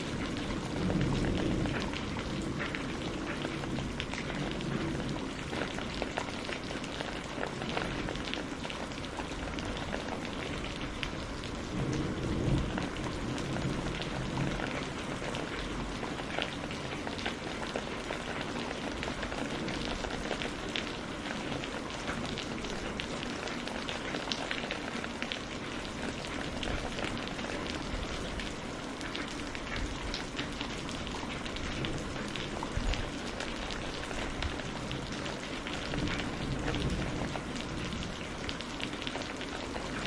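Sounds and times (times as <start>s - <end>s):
low rumble of thunder: 0.0s - 8.5s, 9.2s - 28.8s, 29.4s - 40.0s
steady rain: 0.0s - 40.0s.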